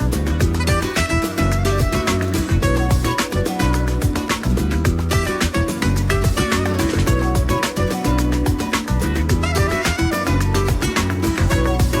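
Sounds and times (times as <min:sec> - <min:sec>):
latin-style instrumental music: 0:00.0 - 0:12.0.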